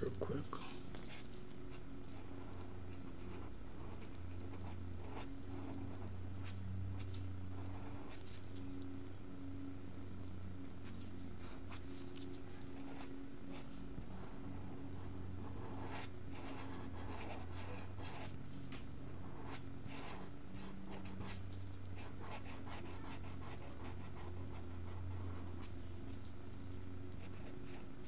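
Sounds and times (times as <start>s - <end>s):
steady low hum: 0.0s - 28.0s
marker scratching on paper: 0.6s - 8.7s, 10.8s - 14.3s, 15.0s - 18.4s, 19.2s - 26.4s, 27.2s - 27.8s.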